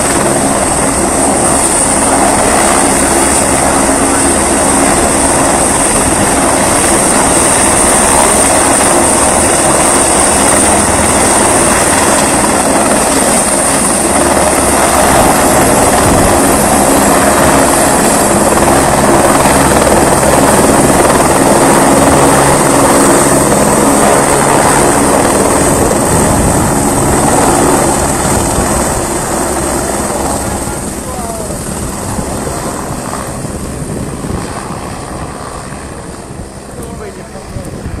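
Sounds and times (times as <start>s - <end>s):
helicopter high whine: 0.0s - 38.0s
helicopter rotor beat: 0.0s - 38.0s.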